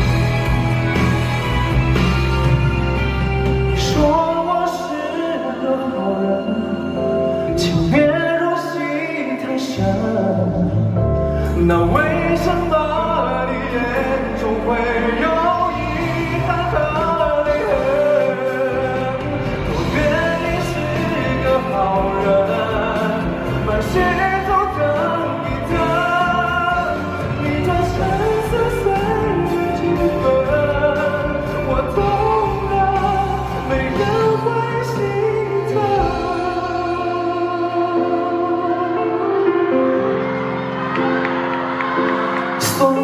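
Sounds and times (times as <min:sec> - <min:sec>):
instrumental backing music: 0:00.0 - 0:43.0
person singing: 0:00.0 - 0:43.0.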